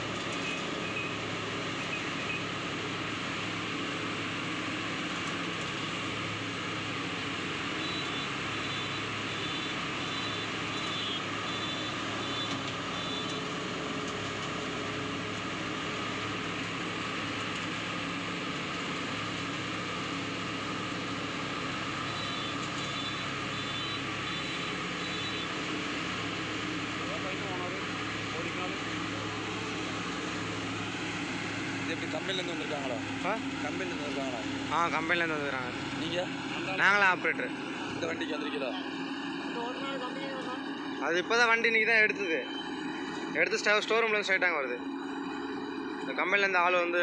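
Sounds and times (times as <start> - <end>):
combine harvester machinery humming: 0.0 - 47.0.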